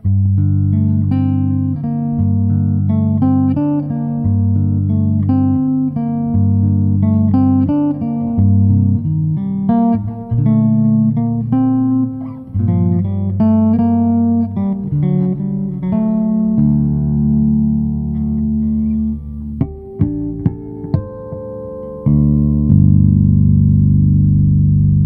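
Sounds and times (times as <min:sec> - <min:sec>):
electric bass playing chords: 0:00.0 - 0:25.0.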